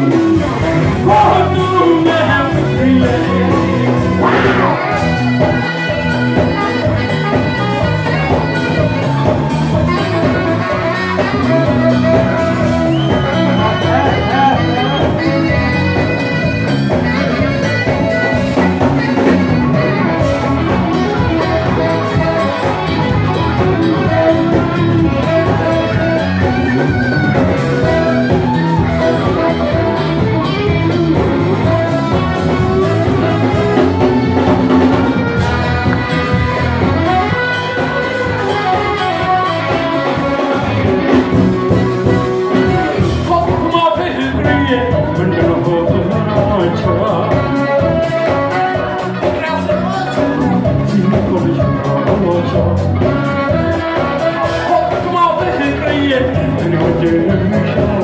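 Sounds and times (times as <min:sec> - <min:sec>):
bass guitar: 0:00.0 - 0:58.0
drum kit: 0:00.0 - 0:58.0
electric guitar: 0:00.0 - 0:58.0
saxophone: 0:00.0 - 0:58.0.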